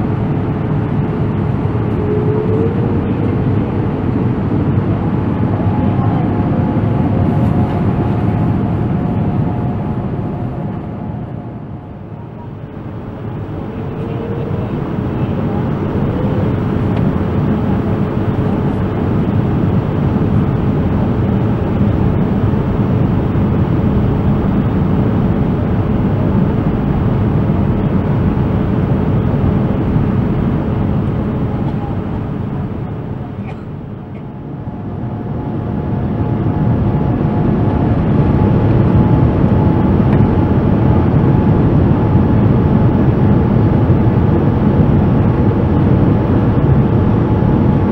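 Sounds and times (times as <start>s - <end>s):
airflow: 0.0s - 41.8s
aircraft engine rumble in cabin: 0.0s - 47.9s.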